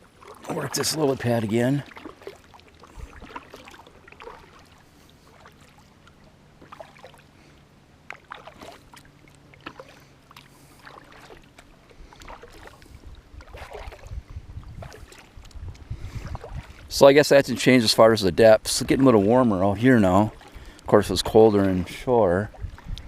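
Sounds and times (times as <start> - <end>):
small water splashes: 0.0 - 23.0.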